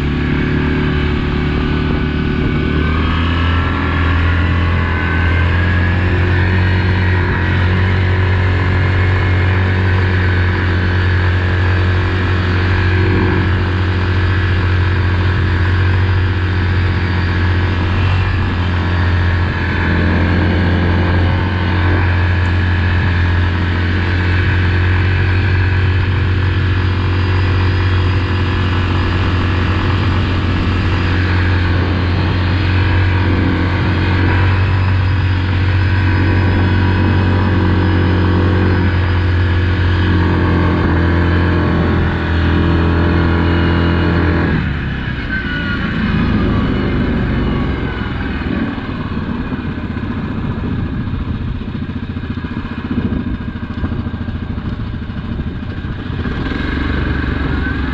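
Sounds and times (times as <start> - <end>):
atv engine at speed: 0.0 - 57.9.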